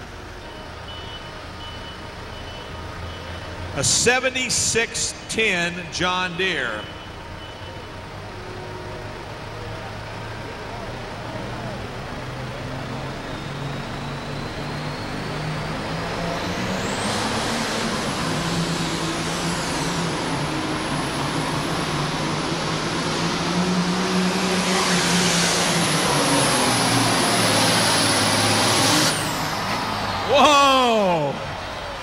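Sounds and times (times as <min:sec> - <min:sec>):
tractor diesel engine at full power: 0:00.0 - 0:32.0.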